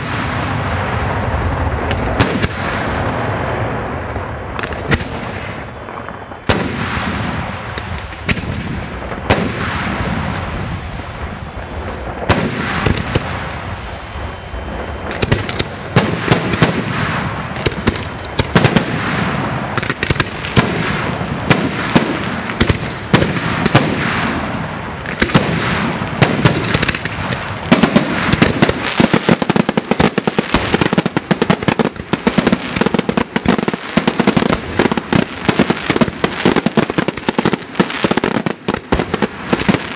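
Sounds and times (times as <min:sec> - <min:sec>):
crackling hiss: 0:00.0 - 0:39.9
firework shells bursting: 0:00.0 - 0:39.9.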